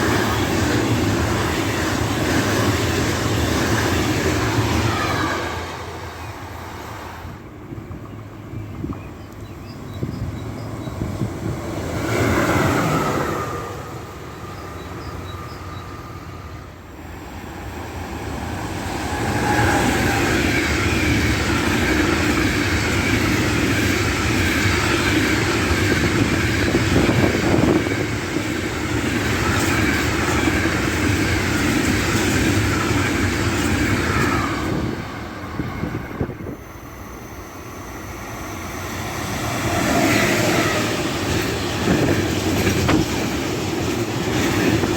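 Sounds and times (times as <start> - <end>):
train passing on rails: 0.0 - 44.9.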